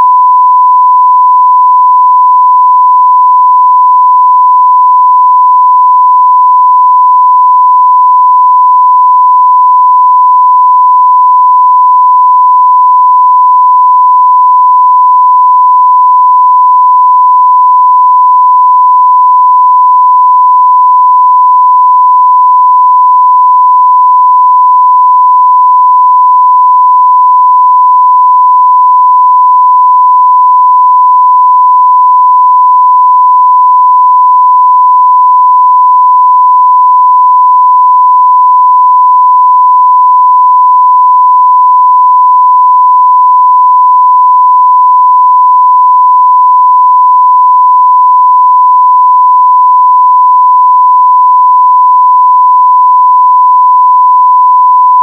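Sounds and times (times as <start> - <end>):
steady sine wave test tone: 0.0 - 55.0.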